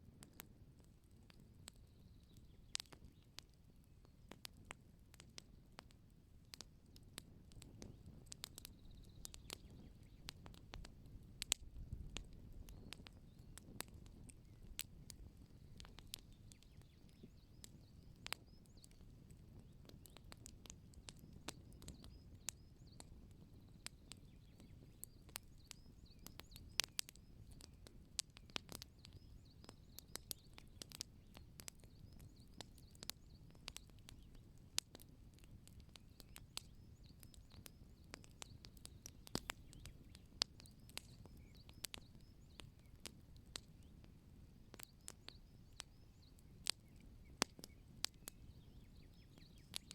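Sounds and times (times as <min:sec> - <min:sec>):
low rumble of burning: 0:00.0 - 0:49.9
wood fire crackling: 0:00.0 - 0:49.9.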